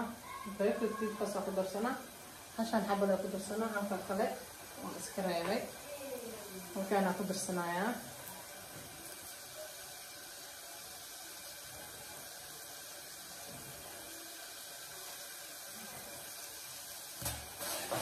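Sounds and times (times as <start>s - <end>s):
sauce simmering hiss: 0.0s - 18.0s.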